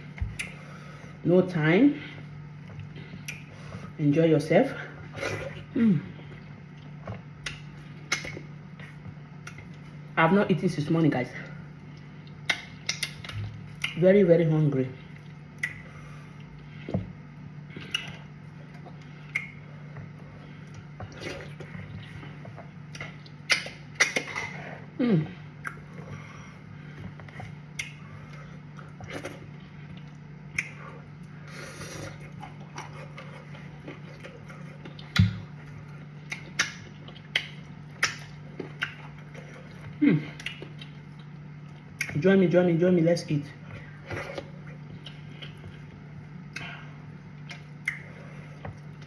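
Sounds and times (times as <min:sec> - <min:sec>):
person chewing food: 0:00.0 - 0:01.2, 0:02.1 - 0:04.0, 0:04.9 - 0:10.2, 0:11.6 - 0:14.0, 0:15.0 - 0:42.2, 0:43.6 - 0:49.0.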